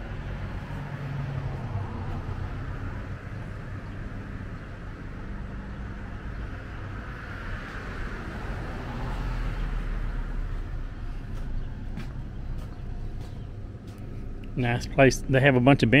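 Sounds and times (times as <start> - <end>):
car passing: 0.0 - 15.5
steady low rumble: 0.0 - 16.0.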